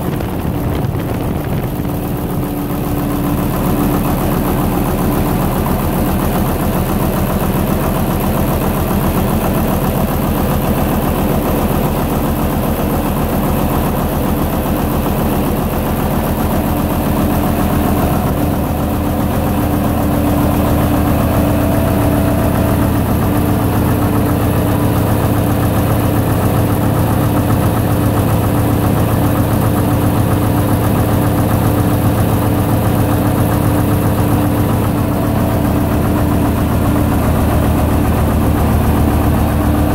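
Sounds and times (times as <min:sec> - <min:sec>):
diesel generator engine knocking: 0:00.0 - 0:39.9.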